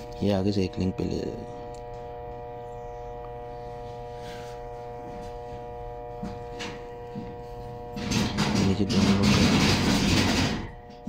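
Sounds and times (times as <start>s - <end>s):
buzzing whine: 0.0s - 11.0s
electrical hum: 0.0s - 11.0s.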